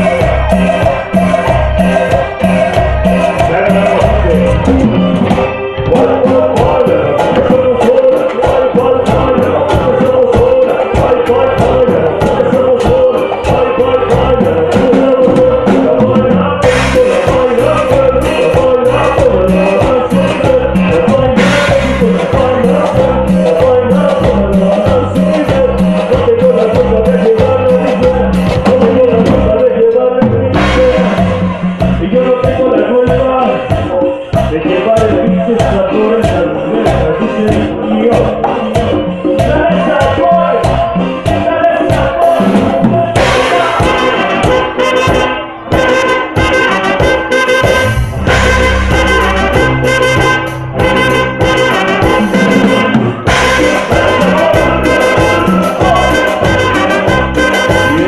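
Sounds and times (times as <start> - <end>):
bass: 0.0 - 58.0
brass-like melody: 0.0 - 58.0
drum kit: 0.0 - 58.0
live band playing dance music: 0.0 - 58.0.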